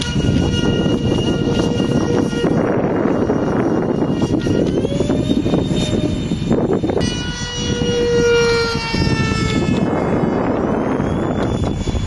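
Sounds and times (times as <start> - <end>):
electric ducted fans whining: 0.0 - 12.0.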